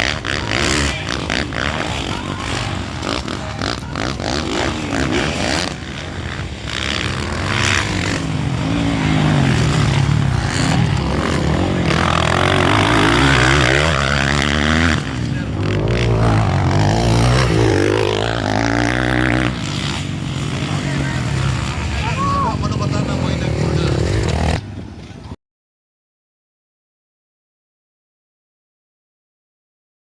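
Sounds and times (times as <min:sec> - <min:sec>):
dirt bike engines revving: 0:00.0 - 0:25.4.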